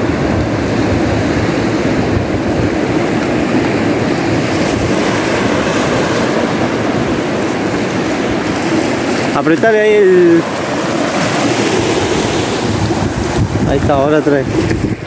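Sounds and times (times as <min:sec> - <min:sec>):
breaking surf: 0:00.0 - 0:15.0
wind buffeting microphone: 0:00.0 - 0:15.0.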